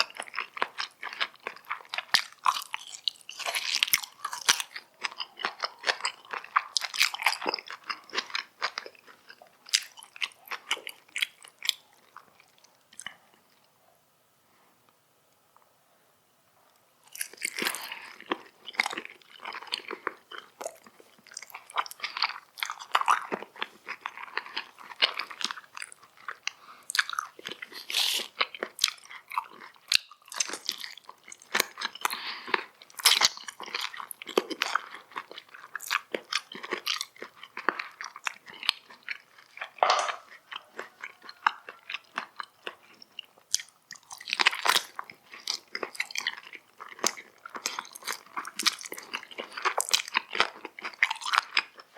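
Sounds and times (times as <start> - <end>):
crunchy bites: 0.0 - 13.2, 17.0 - 51.9
wet chewing: 0.0 - 13.6, 17.0 - 51.9.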